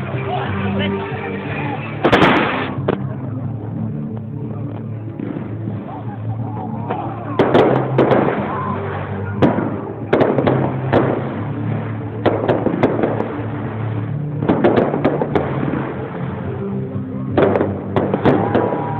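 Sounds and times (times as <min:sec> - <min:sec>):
fireworks crackling: 0:00.0 - 0:18.9
fireworks bangs: 0:01.6 - 0:03.1, 0:04.8 - 0:18.9.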